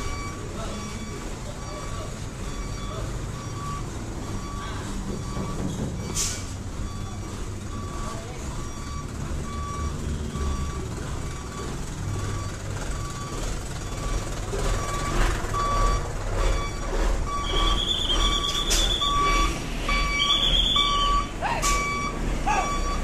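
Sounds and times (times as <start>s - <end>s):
diesel engine running: 0.0s - 23.0s
truck reversing beeper: 0.0s - 23.0s.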